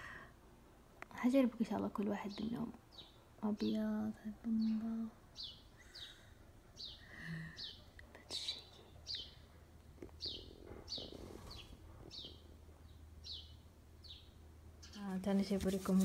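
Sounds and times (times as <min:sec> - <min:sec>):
bird chirping: 0:02.2 - 0:16.0.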